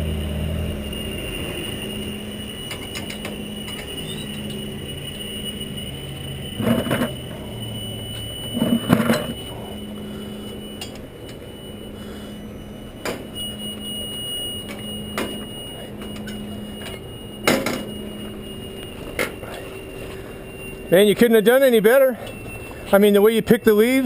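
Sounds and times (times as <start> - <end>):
machine hum: 0.0 - 24.0.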